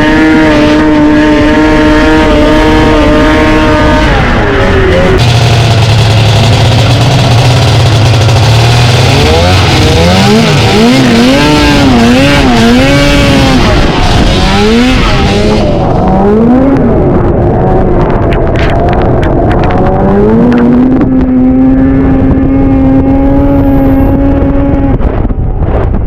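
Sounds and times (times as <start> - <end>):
snowmobile engines revving: 0.0 - 25.9
loud rushing noise: 0.0 - 26.0.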